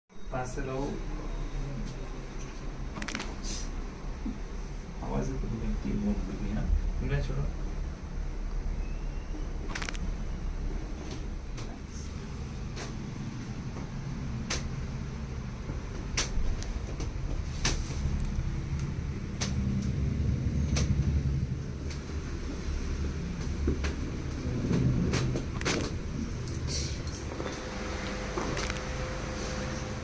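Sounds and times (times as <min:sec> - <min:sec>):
steady low rumble: 0:00.3 - 0:30.0.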